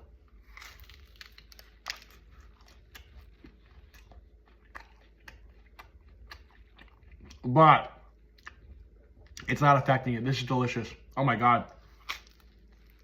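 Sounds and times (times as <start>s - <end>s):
person chewing pizza: 0.0s - 9.9s, 11.0s - 13.0s.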